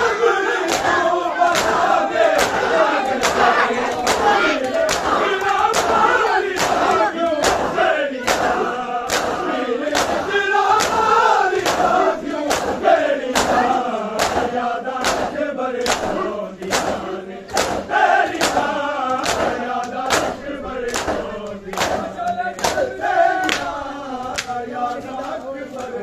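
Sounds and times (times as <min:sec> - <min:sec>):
men chanting a lament: 0:00.0 - 0:26.0
hands slapping bare chests: 0:00.7 - 0:23.7, 0:24.3 - 0:24.6.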